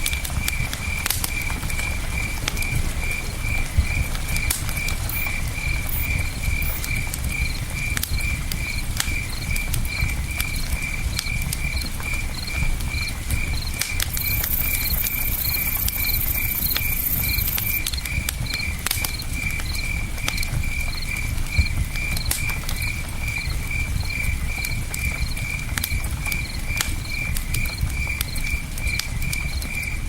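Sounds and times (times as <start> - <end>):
campfire crackling and popping: 0.0 - 30.0
cricket chirping: 0.2 - 30.0.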